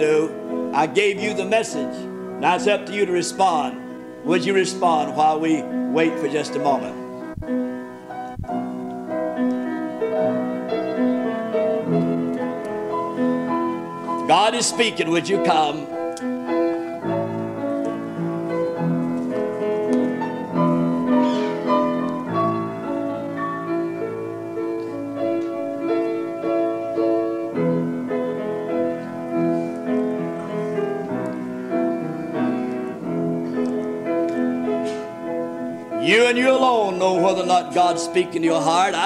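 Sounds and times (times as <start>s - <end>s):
slow piano chords: 0.0s - 39.0s.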